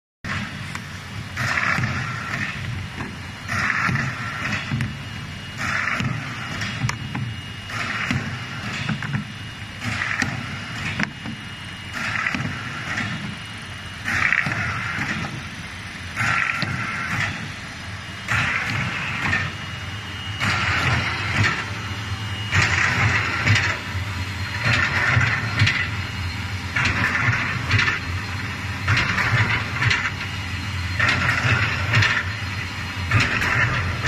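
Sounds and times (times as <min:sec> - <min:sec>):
machine droning with noisy bursts: 0:00.3 - 0:34.0.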